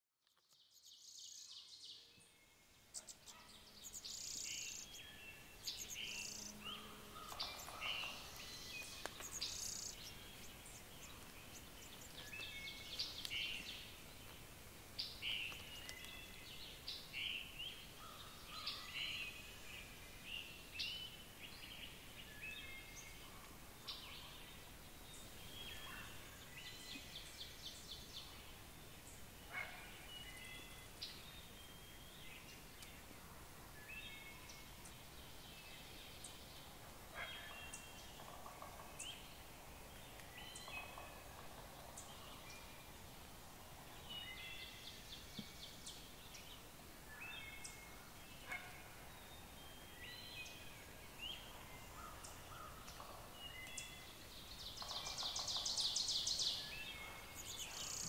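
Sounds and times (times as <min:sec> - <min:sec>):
songbirds chirping: 0:00.2 - 0:58.0
faint steady hiss: 0:00.3 - 0:58.0.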